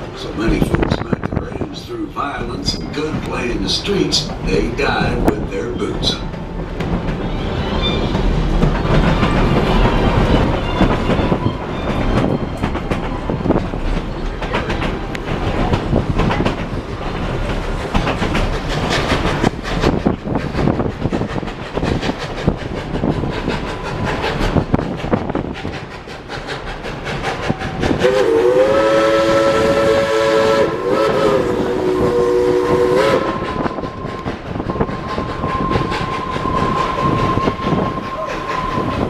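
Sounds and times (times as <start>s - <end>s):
train wheels clacking on rails: 0.0s - 39.0s.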